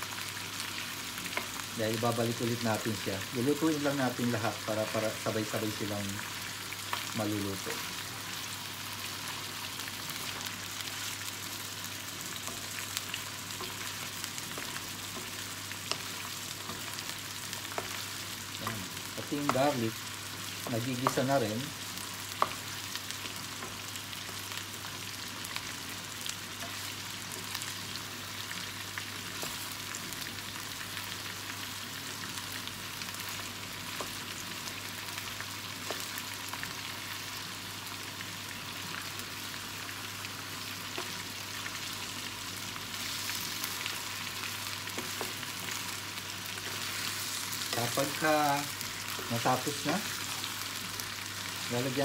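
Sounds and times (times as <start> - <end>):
chicken sizzling in hot oil: 0.0 - 52.0.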